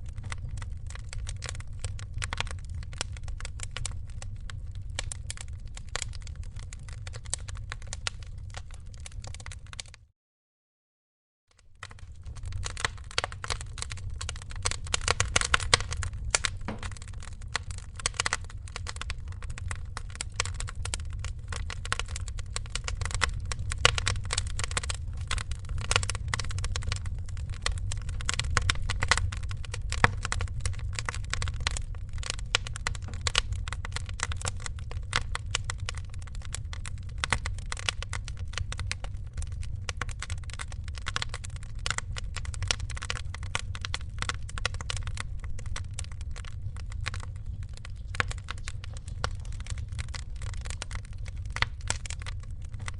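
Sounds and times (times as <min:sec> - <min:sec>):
wood fire crackling and popping: 0:00.0 - 0:10.0, 0:11.6 - 0:52.9.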